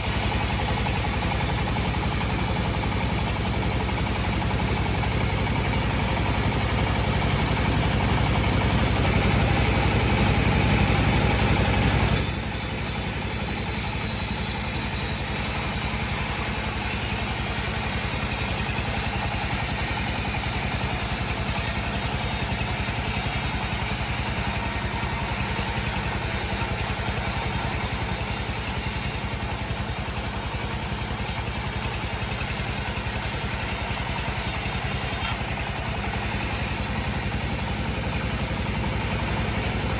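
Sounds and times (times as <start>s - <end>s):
bandsaw running with a hum: 0.0s - 39.9s.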